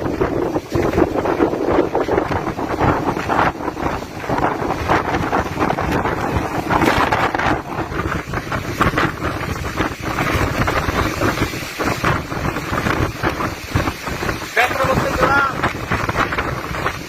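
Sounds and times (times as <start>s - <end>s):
storm wind buffeting microphone: 0.0s - 17.0s.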